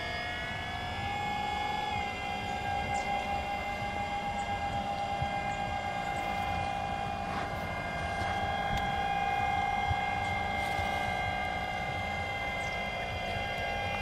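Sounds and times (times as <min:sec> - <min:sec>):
model ship motor whine: 0:00.0 - 0:14.0.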